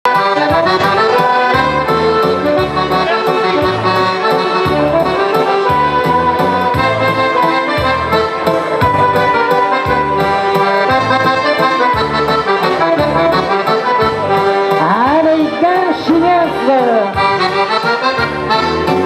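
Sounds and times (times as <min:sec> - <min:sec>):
accordion dance tune: 0:00.0 - 0:19.0
bass line: 0:00.1 - 0:19.0.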